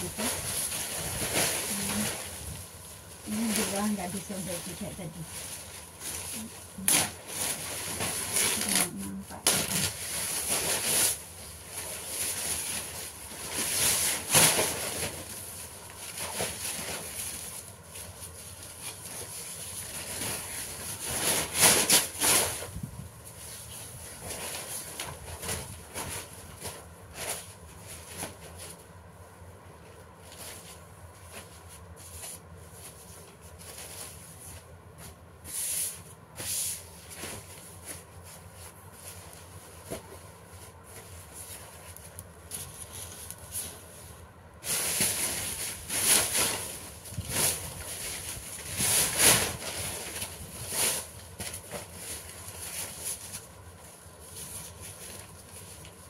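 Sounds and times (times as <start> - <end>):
paper rustling and crinkling: 0.0 - 29.1, 29.7 - 56.0.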